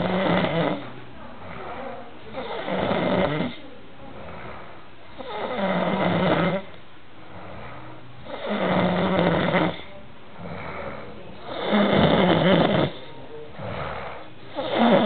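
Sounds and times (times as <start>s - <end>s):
loud snoring: 0.0s - 3.6s, 4.2s - 15.0s
quiet breathing: 0.0s - 5.6s, 6.6s - 9.0s, 9.7s - 15.0s.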